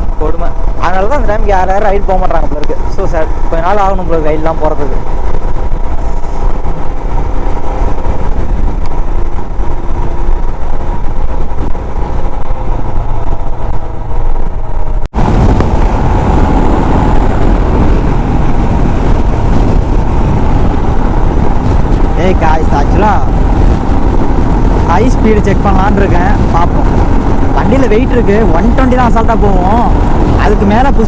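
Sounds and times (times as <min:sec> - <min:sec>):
loud wind noise: 0:00.0 - 0:31.0
motorcycle engine running: 0:00.0 - 0:31.0.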